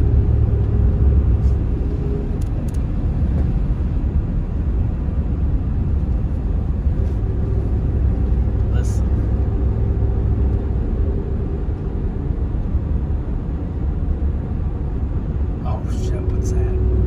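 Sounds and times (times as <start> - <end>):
car tyre and engine rumble: 0.0 - 17.0.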